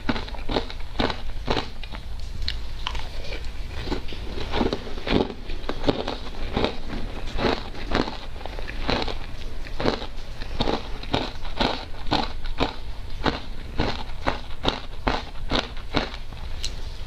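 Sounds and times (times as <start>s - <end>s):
ice being chewed: 0.0s - 16.8s.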